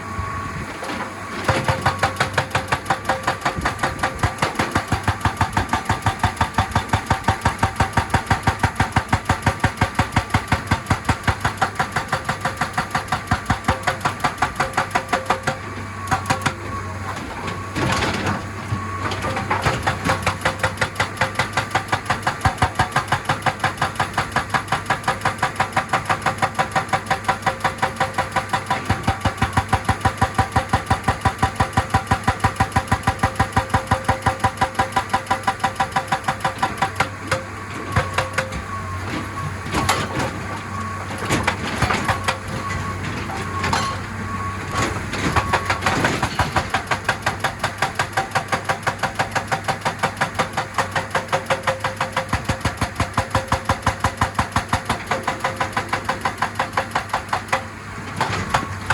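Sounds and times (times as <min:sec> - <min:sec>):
diesel engine running: 0:00.0 - 0:58.9
hydraulic breaker hammering rock: 0:01.4 - 0:58.9.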